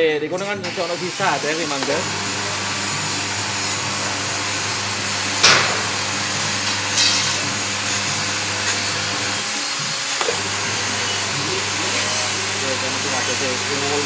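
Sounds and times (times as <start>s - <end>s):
machine motor hum and grinding: 0.6s - 14.0s.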